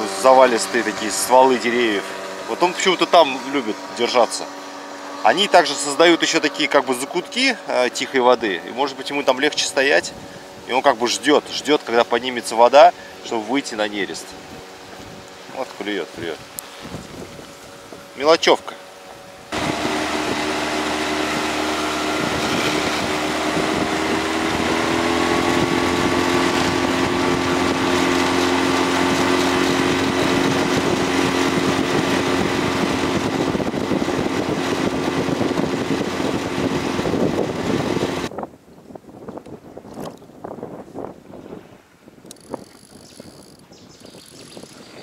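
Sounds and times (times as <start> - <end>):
outboard motor running: 0.0 - 38.3, 42.2 - 45.0.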